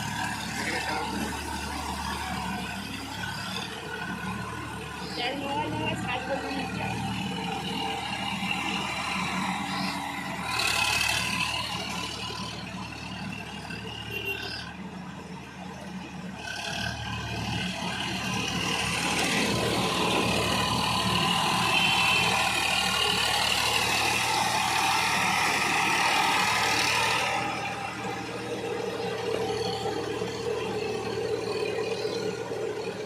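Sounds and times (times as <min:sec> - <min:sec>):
mini tractor engine running: 0:00.0 - 0:33.0.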